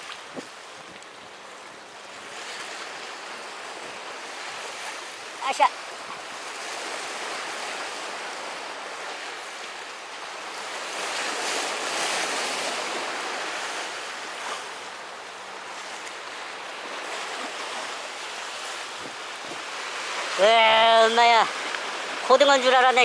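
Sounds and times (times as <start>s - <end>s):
sea waves washing over rocks: 0.0s - 23.0s.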